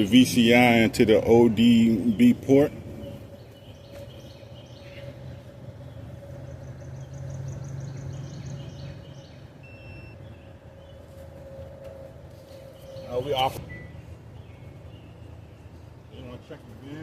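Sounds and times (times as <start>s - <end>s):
birds chirping: 0.0s - 17.0s
distant traffic hum: 0.0s - 17.0s.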